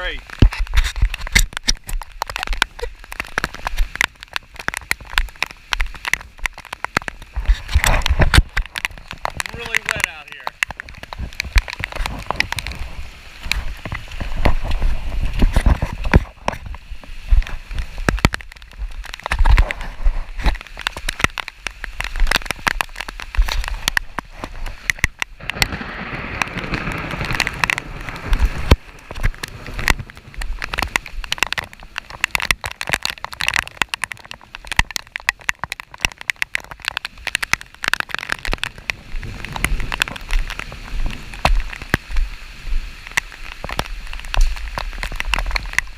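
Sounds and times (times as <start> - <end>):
raindrops crackling near microphone: 0.0 - 45.9.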